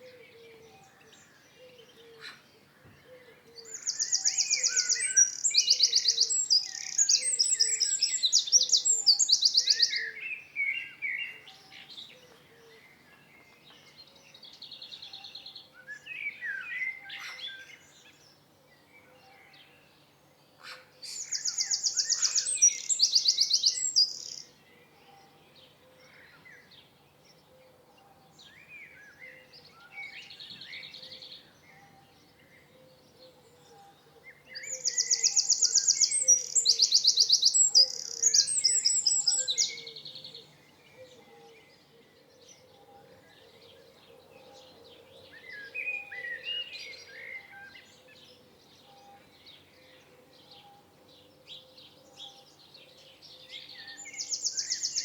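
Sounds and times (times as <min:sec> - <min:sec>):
bird song of high trills: 0:00.0 - 0:20.0, 0:20.6 - 0:55.0
quiet bird calls: 0:00.0 - 0:55.0.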